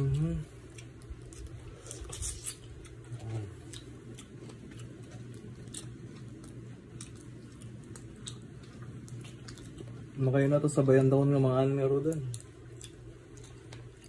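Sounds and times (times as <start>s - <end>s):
chewing: 0.0s - 11.2s, 12.0s - 14.0s
steady low hum: 0.0s - 14.0s.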